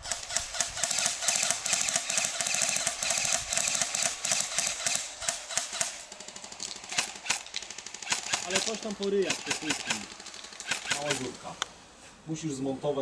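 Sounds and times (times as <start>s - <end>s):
airsoft guns firing full auto: 0.0s - 11.6s.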